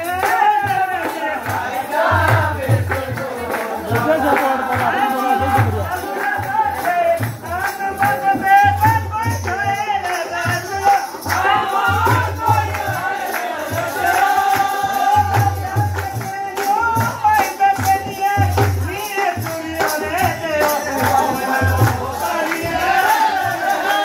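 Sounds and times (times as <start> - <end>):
folk melody with singing: 0.0 - 24.0
light jingling percussion: 0.0 - 24.0.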